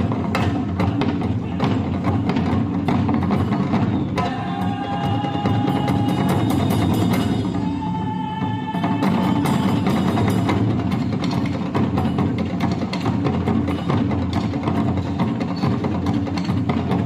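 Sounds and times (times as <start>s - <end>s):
quick dense drum strokes: 0.0s - 17.0s.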